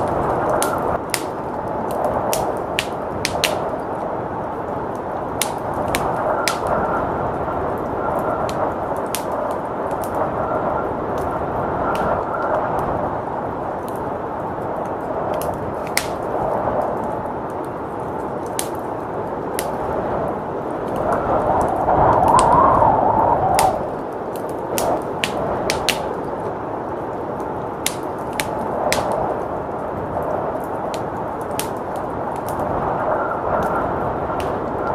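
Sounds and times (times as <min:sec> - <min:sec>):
blizzard wind: 0:00.0 - 0:34.9
wood fire crackling and popping: 0:00.0 - 0:34.9.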